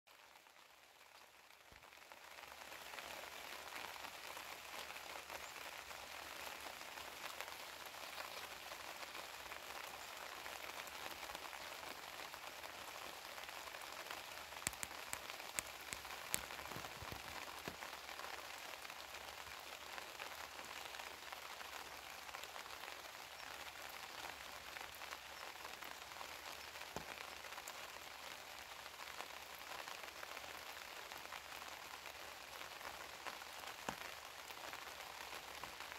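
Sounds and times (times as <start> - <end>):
rain pattering on leaves: 0.1 - 35.9.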